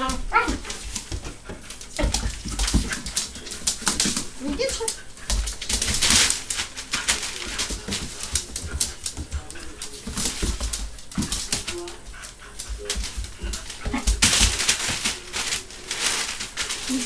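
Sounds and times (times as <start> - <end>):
puppy scuffling: 0.0 - 17.0
rustling scuffle: 0.0 - 17.0.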